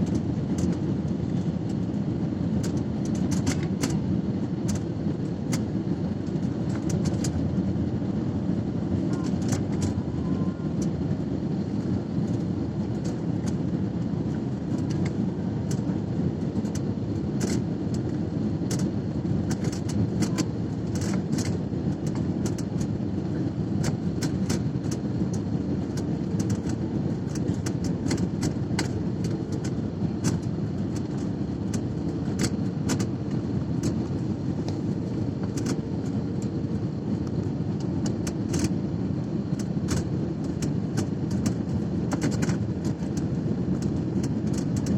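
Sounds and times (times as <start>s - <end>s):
airliner cabin rumble: 0.0s - 44.9s.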